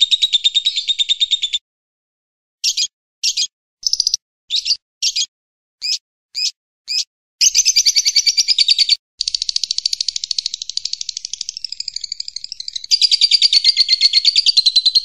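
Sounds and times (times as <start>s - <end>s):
fast chattering bird trill: 0.0s - 1.6s, 2.6s - 15.0s
short high bird chirps: 2.6s - 15.0s.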